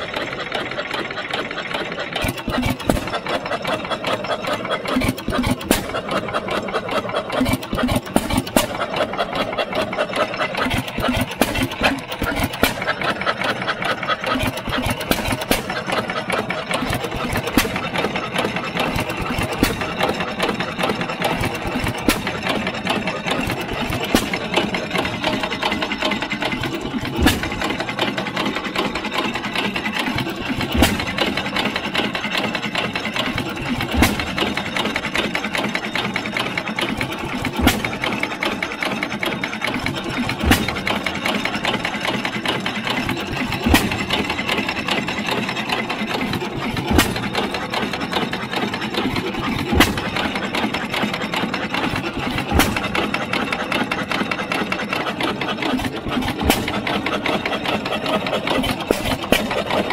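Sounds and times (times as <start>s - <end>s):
engine firing stroke: 0.0s - 59.9s
gas engine clattering: 0.0s - 59.9s.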